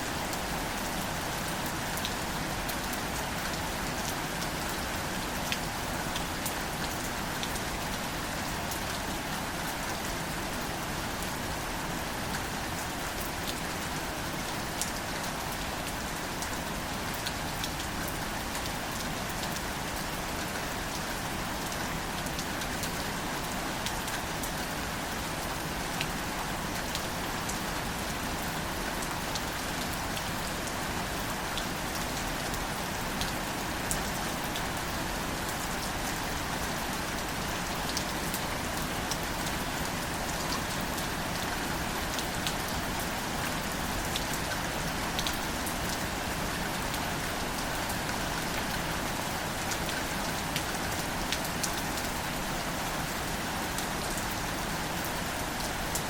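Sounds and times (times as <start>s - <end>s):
gentle rain on leaves: 0.0s - 56.0s.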